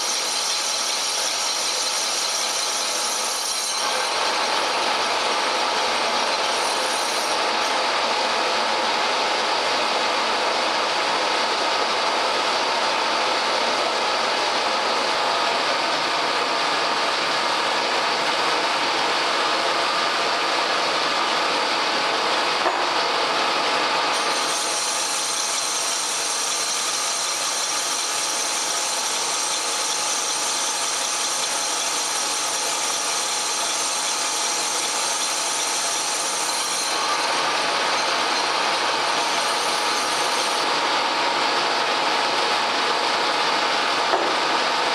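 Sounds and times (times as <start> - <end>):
lathe cutting metal: 0.0 - 10.6, 16.9 - 44.8.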